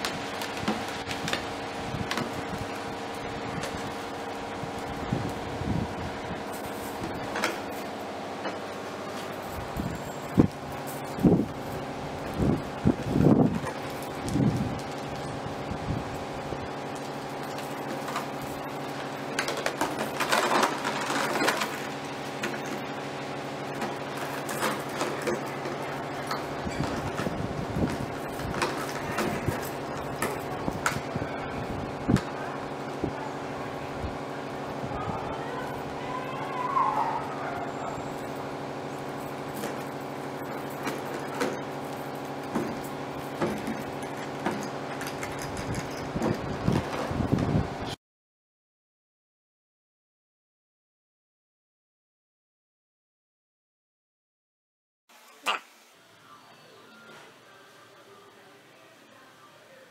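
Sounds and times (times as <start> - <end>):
steady droning hum: 0.0 - 48.0.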